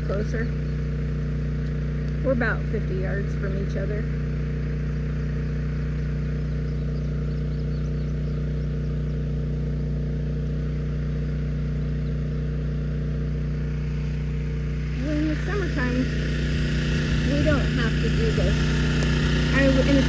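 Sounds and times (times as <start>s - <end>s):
engine-driven water pump running: 0.0s - 20.0s.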